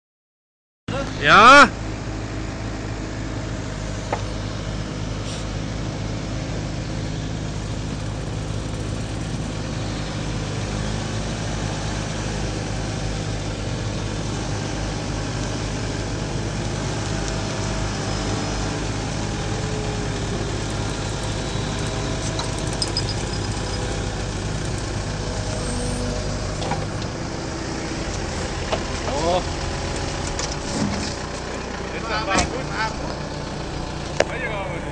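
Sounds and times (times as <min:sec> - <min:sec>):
excavator diesel engine humming: 0:00.9 - 0:34.9.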